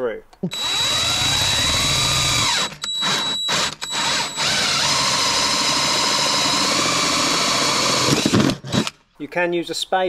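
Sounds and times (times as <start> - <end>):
cordless drill boring wood: 0.5 - 8.9.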